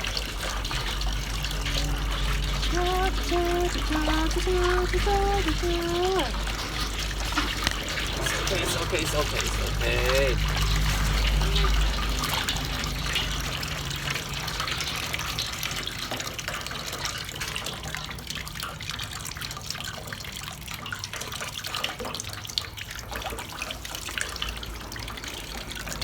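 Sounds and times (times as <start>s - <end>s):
tap water splashing into tub: 0.0s - 26.0s
water drips: 0.0s - 26.0s.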